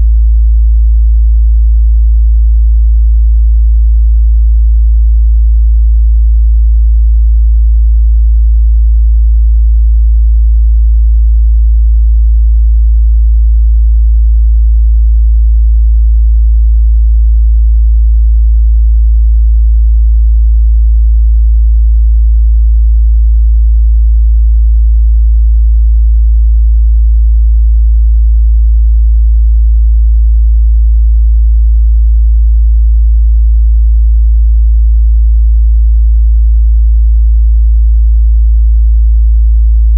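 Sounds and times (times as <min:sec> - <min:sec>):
deep bass test tone hum: 0:00.0 - 0:39.9.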